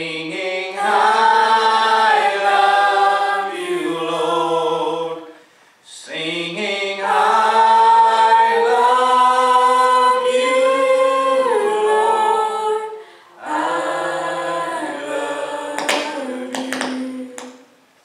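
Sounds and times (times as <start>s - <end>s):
group singing in harmony: 0.0s - 17.8s.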